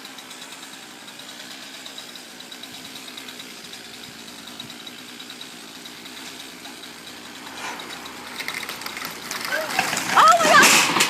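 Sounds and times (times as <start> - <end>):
chainsaw engine idling: 0.0 - 11.0.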